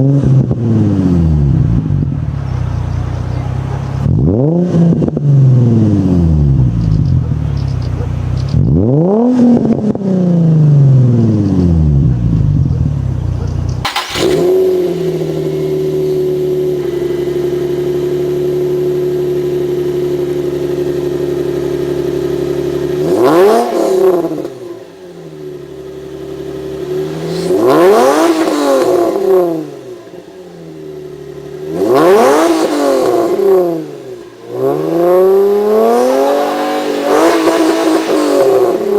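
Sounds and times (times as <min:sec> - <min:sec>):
car engine revving: 0:00.0 - 0:38.9
car engine idling: 0:00.9 - 0:04.4, 0:05.2 - 0:08.8, 0:11.0 - 0:38.9.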